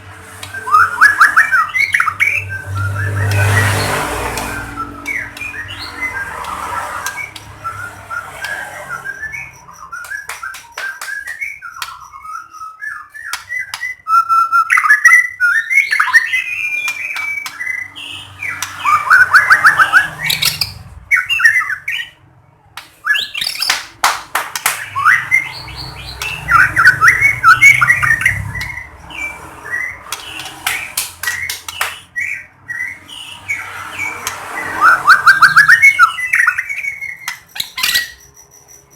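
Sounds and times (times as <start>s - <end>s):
songbird singing: 0.4s - 23.9s, 24.6s - 38.9s.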